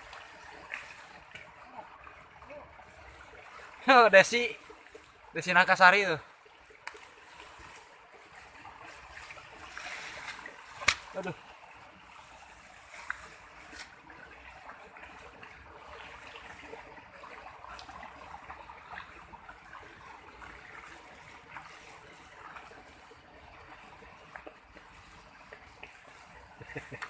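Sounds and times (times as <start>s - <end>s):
small water splashes: 0.0s - 27.0s
stream trickling: 0.0s - 27.0s.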